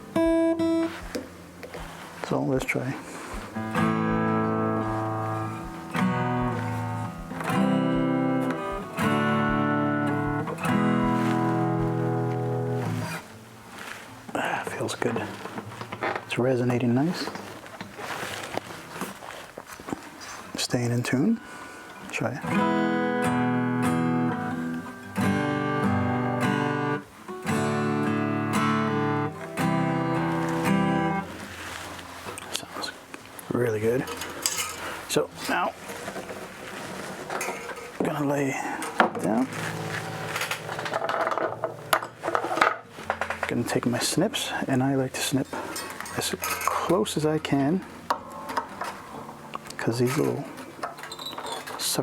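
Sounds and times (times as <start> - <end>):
acoustic guitar strumming chords: 0.0 - 19.1, 20.8 - 52.0.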